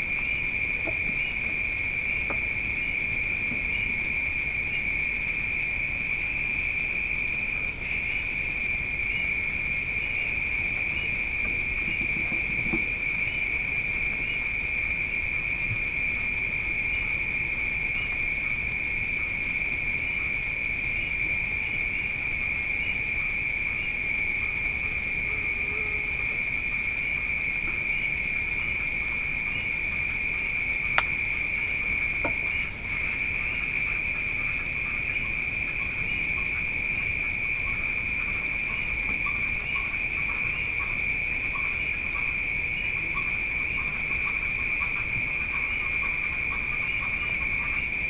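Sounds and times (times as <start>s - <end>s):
crickets trilling: 0.0s - 48.0s.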